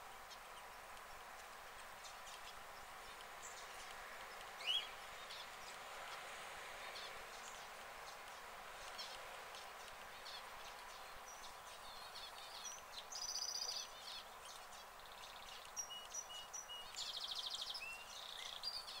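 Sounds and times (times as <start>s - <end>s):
outdoor background hiss: 0.0s - 19.0s
small birds chirping and trilling: 0.0s - 19.0s.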